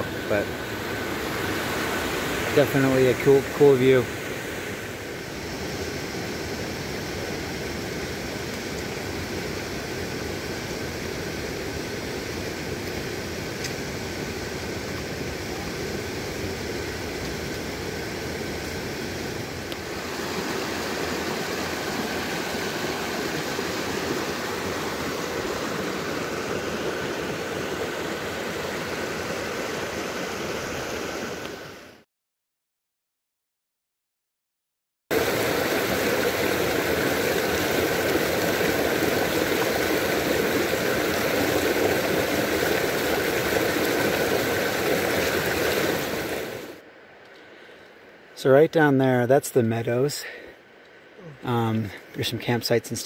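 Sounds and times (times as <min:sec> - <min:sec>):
creek rushing over boulders: 0:00.0 - 0:31.8, 0:35.1 - 0:46.8.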